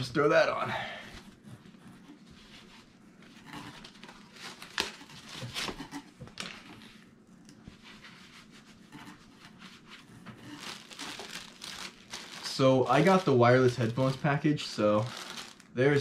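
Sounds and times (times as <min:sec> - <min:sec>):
cap rustling and handling: 0:01.2 - 0:15.8.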